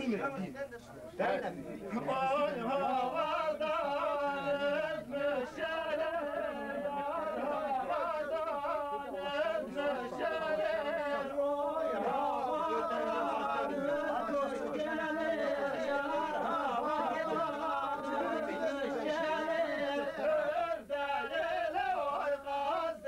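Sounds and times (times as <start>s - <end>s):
man singing unaccompanied: 1.2s - 23.0s.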